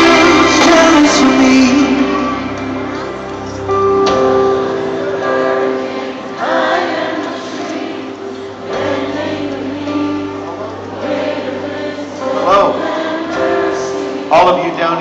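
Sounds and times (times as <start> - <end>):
live worship music with singing: 0.0 - 15.0.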